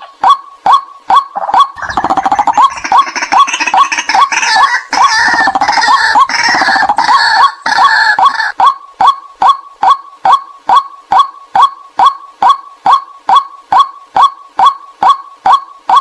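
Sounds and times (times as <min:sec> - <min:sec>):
chorus of bird calls: 0:00.0 - 0:16.0.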